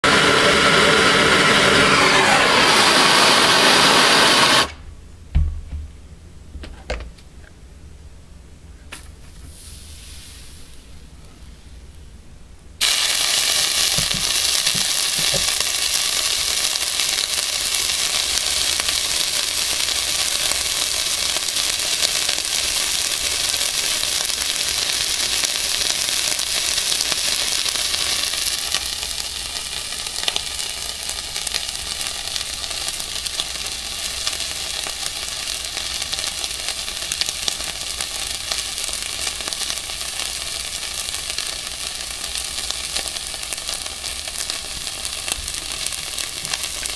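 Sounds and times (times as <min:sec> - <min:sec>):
steak sizzling: 0:00.0 - 0:04.8, 0:12.8 - 0:46.9.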